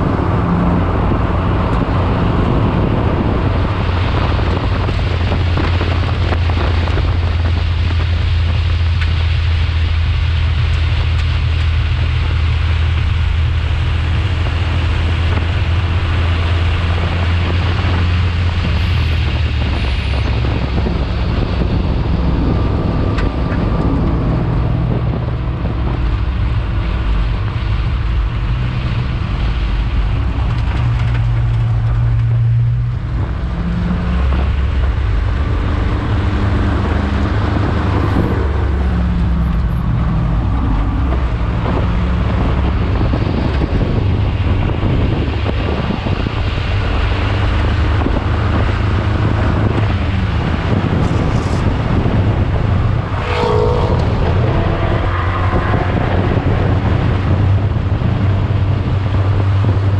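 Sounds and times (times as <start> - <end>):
race car engine running hard: 0.0 - 59.9
wind rush over microphone: 0.0 - 59.9.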